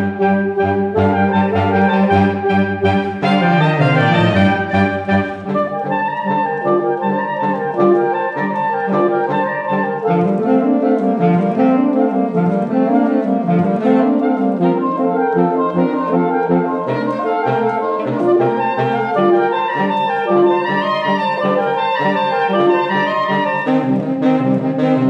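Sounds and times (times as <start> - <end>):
saxophone quartet playing: 0.0 - 25.0.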